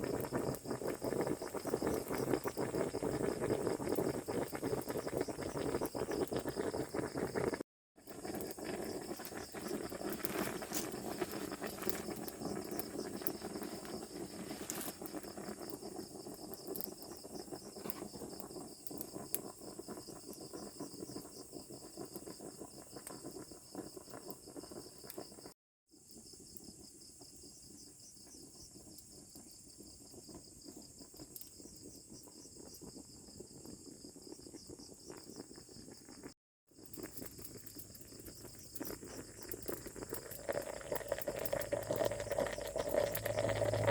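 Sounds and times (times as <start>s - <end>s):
campfire crackling and popping: 0.0s - 25.5s, 29.4s - 43.9s
crickets chirping: 0.0s - 43.9s.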